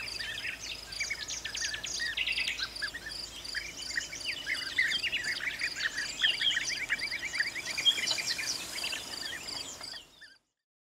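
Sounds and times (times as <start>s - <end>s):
wild birds chirping: 0.0s - 10.6s.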